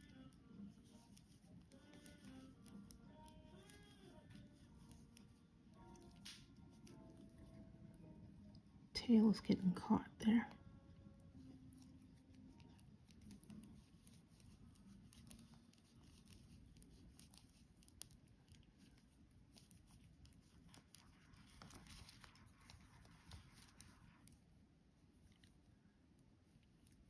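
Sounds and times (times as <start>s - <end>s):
knitting needles clicking: 0.0s - 10.5s, 11.5s - 24.4s.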